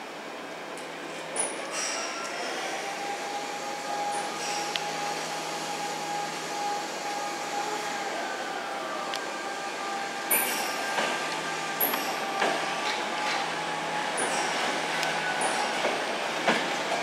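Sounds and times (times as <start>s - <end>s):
train rumbling: 0.0s - 17.0s
high-pitched brake squeal: 1.4s - 8.7s, 9.4s - 15.9s.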